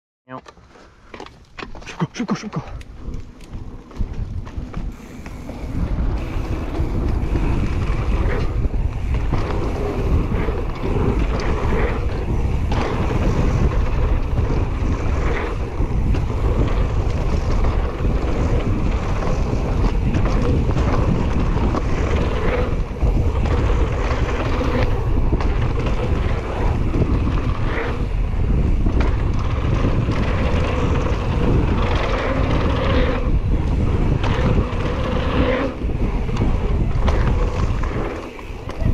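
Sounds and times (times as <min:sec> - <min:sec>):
knobby tyres rolling on dirt: 0:00.5 - 0:38.9
wind buffeting microphone: 0:02.6 - 0:38.9
bike knocks and rattles: 0:03.1 - 0:38.9.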